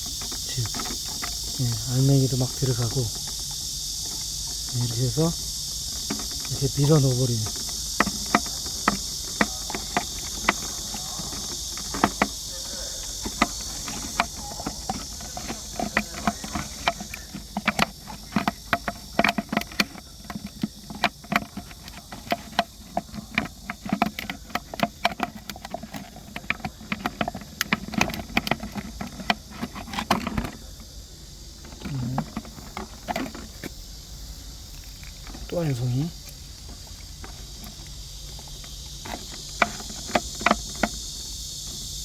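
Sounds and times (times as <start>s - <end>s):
plastic bottle crackling: 0.0s - 41.8s.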